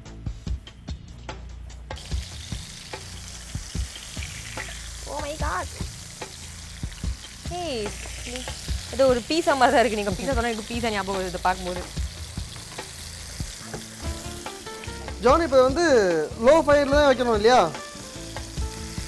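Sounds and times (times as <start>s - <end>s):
chicken sizzling in hot oil: 2.0s - 19.0s.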